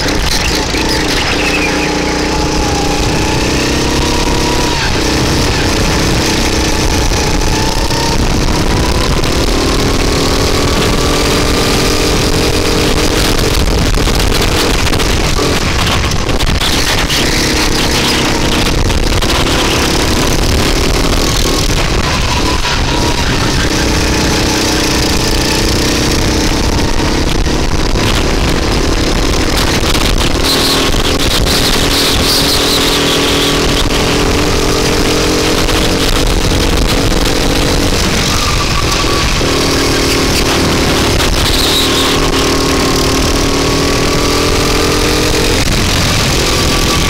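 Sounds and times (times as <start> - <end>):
go-kart engine running hard: 0.0 - 47.0
wind rushing on microphone: 0.0 - 47.0.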